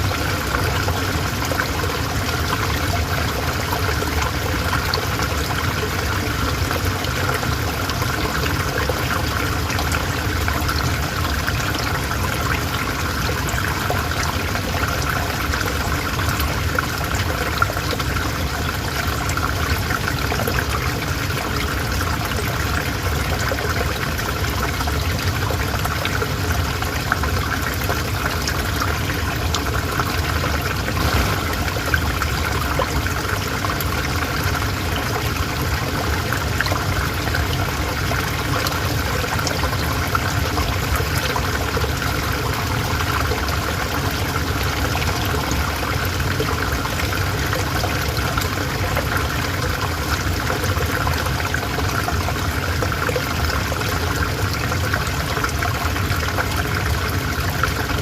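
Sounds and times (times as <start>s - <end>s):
river water flowing: 0.0s - 58.0s
water splashes and trickles: 0.0s - 58.0s.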